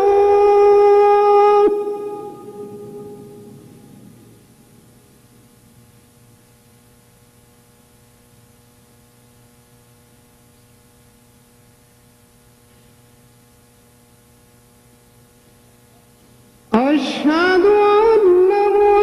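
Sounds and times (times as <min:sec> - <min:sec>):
faint electrical mains hum: 0:00.0 - 0:19.0.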